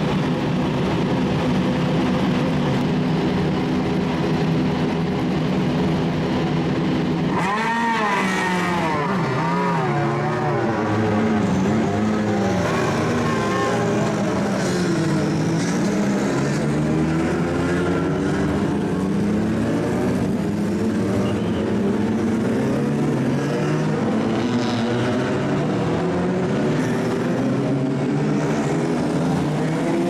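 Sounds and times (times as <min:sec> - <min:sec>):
race car engine drone: 0:00.0 - 0:30.0.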